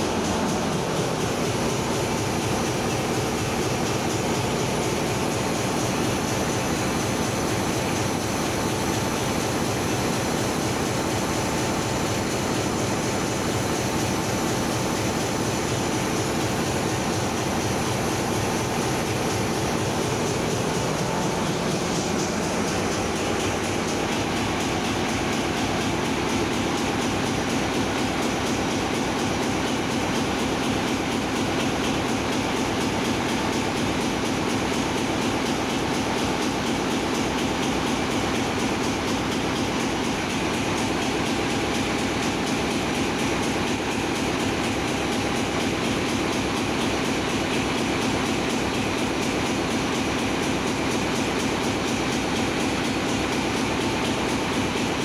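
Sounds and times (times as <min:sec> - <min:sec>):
engine room machinery din: 0:00.0 - 0:55.0.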